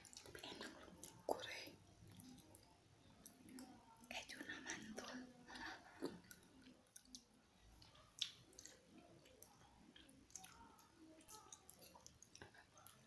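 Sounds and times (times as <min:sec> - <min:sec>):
chewing wet squishes: 0:00.0 - 0:01.3, 0:01.9 - 0:13.0.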